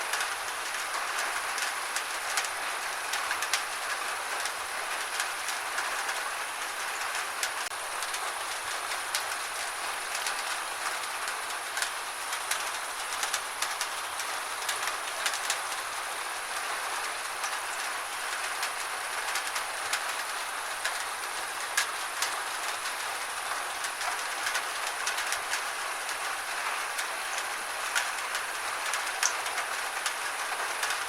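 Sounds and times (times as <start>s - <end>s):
gentle rain hissing: 0.0s - 31.0s
raindrops ticking on surfaces: 0.0s - 31.0s.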